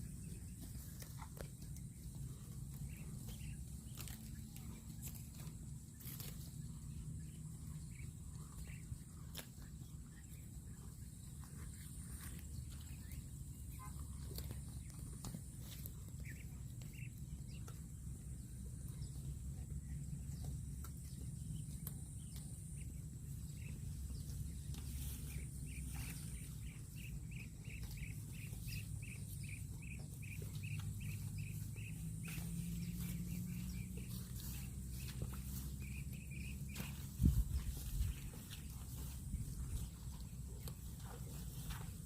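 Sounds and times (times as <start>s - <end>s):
steady low rumble: 0.0s - 42.0s.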